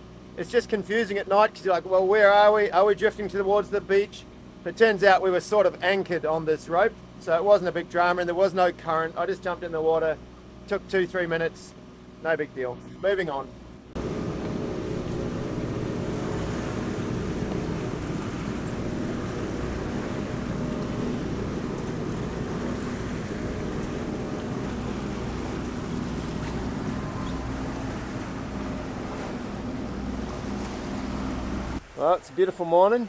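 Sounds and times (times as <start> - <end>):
boat engine humming: 0.0 - 33.0
water noise: 0.0 - 33.0
wind: 0.0 - 33.0.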